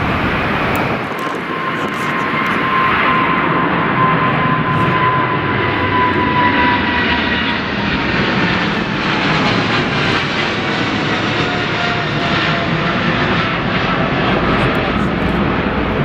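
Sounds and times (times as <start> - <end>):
jet engines passing: 0.0 - 16.0.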